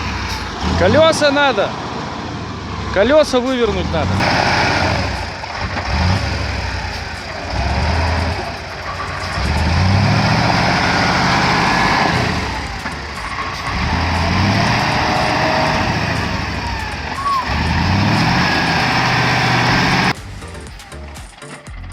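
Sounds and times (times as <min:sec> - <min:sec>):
truck diesel engine revving: 0:00.0 - 0:21.9.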